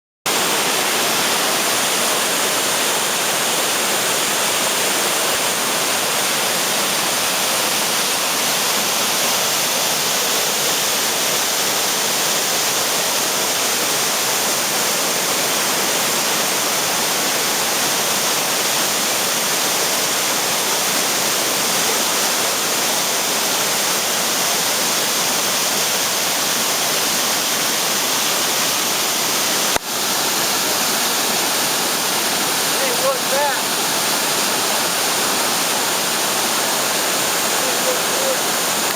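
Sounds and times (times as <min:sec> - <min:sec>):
flooded creek rushing: 0:00.3 - 0:38.9.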